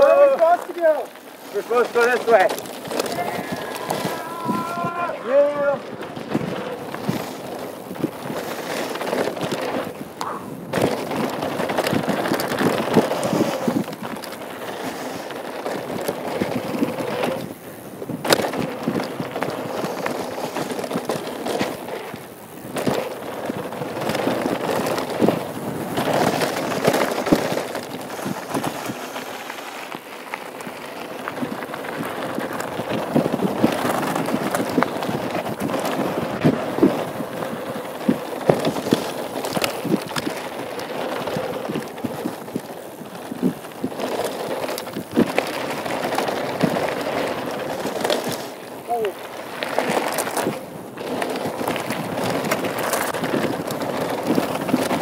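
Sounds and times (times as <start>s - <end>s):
bike rattling over bumps: 0.0s - 55.0s
bike tyres crunching on gravel: 0.0s - 55.0s.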